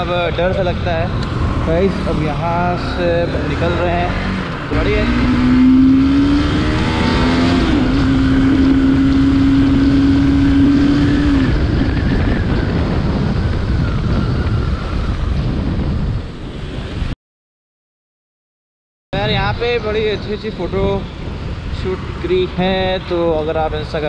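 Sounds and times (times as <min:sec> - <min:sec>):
wind rushing over microphone: 0:00.0 - 0:17.2, 0:19.2 - 0:24.0.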